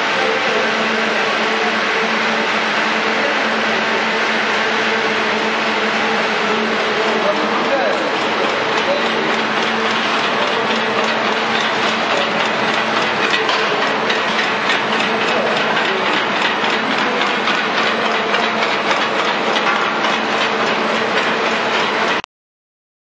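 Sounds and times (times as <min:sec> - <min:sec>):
motor hum: 0:00.0 - 0:22.2.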